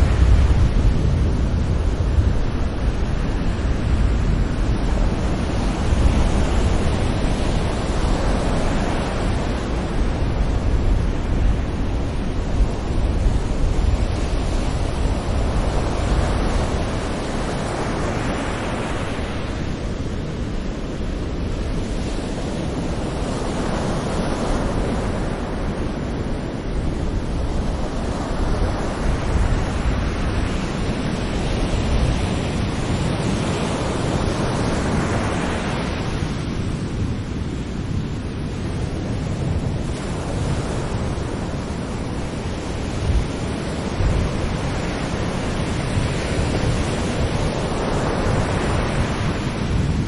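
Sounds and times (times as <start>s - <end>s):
small waves breaking on shore: 0.0s - 50.0s
steady wash of surf: 0.0s - 50.0s.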